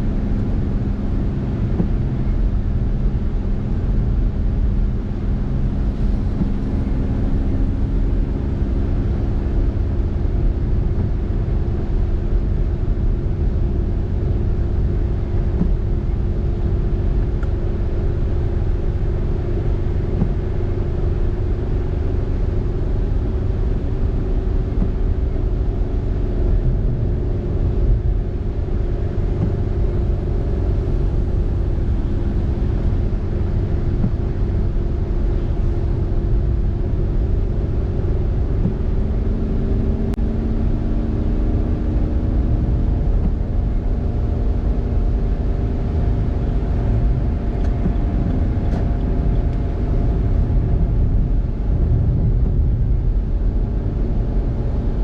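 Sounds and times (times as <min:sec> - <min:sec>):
car engine hum: 0:00.0 - 0:55.0
road rumble: 0:00.0 - 0:55.0.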